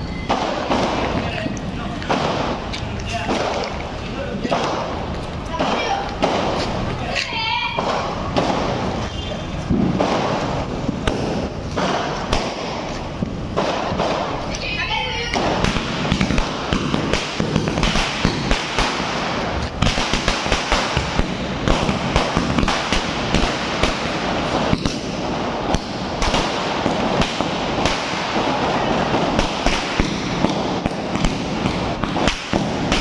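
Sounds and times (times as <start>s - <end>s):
firecrackers rapid crackle: 0.0s - 33.0s.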